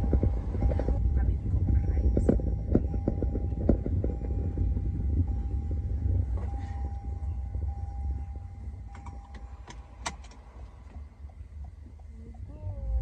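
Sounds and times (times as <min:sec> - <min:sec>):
car interior road and engine rumble: 0:00.0 - 0:13.0.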